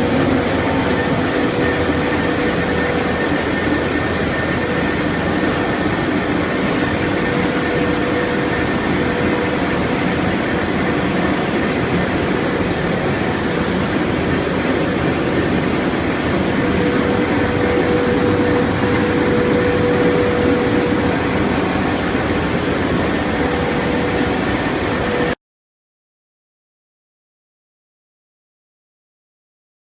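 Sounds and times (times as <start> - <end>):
faint steady hums: 0.0 - 25.4
pellet granulator machine running: 0.0 - 25.4.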